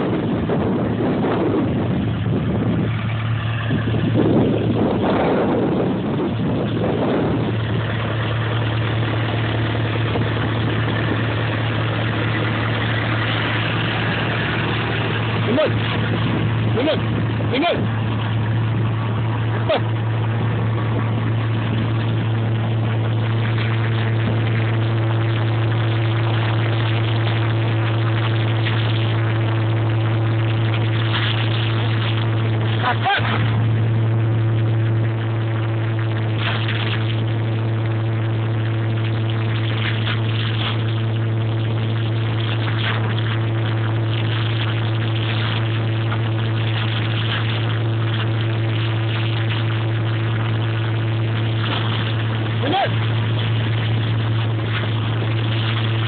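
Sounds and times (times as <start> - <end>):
farm implement mechanical drone: 0.0 - 56.0.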